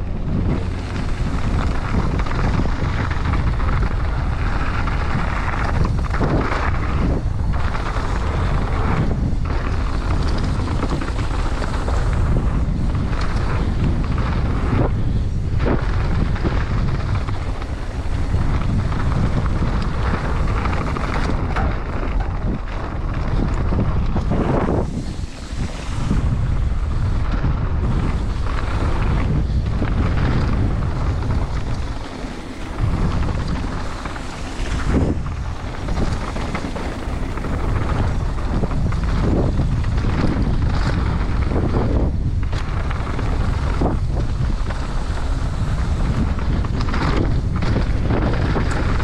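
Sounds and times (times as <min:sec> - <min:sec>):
mountain bike rumble: 0:00.0 - 0:49.0
wind rushing over microphone: 0:00.0 - 0:49.0.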